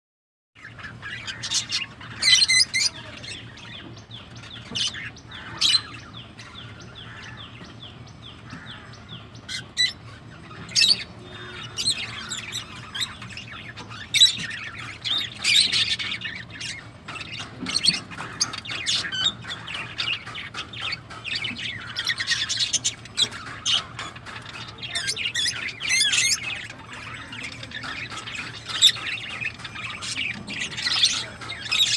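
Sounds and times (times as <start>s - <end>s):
parrots chirping and squawking: 0.6s - 31.9s.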